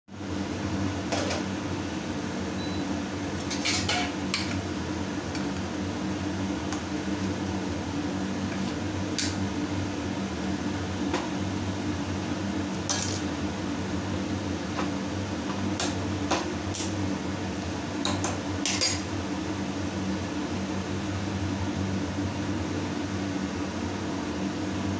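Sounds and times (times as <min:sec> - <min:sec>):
steady low hum: 0:00.1 - 0:24.9.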